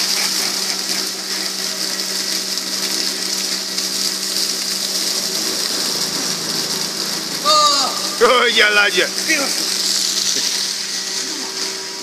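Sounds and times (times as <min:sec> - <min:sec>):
low machine hum: 0:00.0 - 0:12.0
water pouring and splashing: 0:00.0 - 0:12.0.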